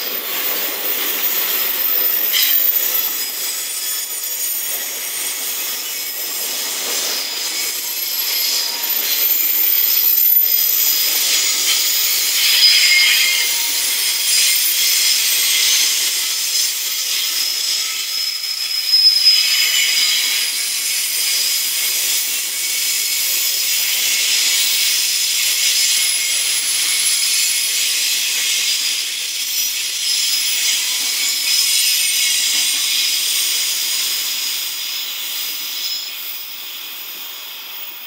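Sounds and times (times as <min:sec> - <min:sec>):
faint wheel squealing: 0:00.0 - 0:34.3
train wheels rolling over rails: 0:00.0 - 0:37.8.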